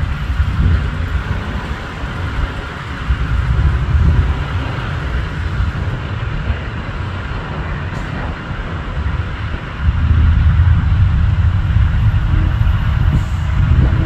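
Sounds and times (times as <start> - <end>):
distant jet rumble with hiss: 0.0 - 14.0.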